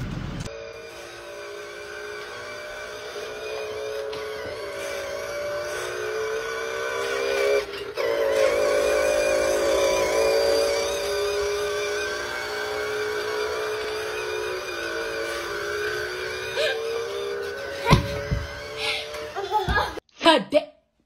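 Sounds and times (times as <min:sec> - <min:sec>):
small electric motor whining: 0:00.4 - 0:20.0.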